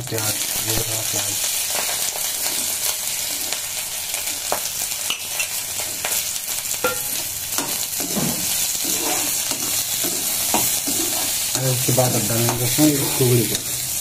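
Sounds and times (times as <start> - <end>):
onions sizzling in oil: 0.0 - 14.0
metal spatula scraping a pan: 1.6 - 14.0.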